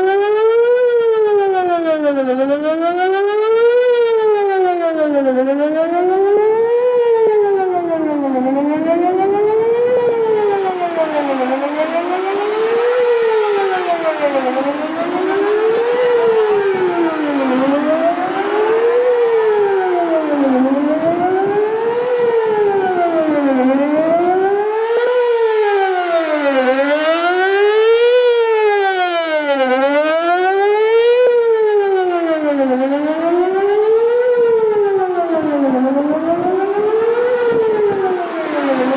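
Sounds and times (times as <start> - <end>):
electronic siren wailing: 0.0 - 38.9.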